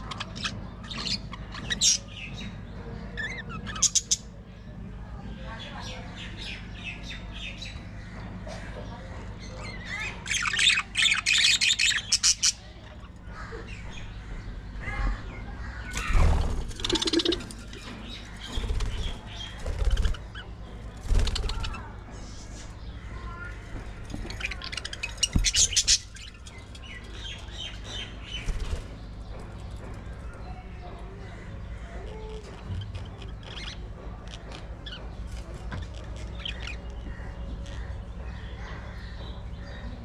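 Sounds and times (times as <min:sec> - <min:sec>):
budgies chirping: 0:00.0 - 0:04.4, 0:09.0 - 0:40.0.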